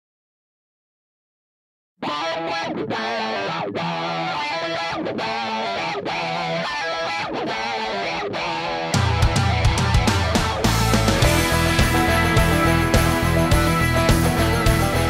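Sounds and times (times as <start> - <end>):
distorted electric guitar: 2.0 - 15.0.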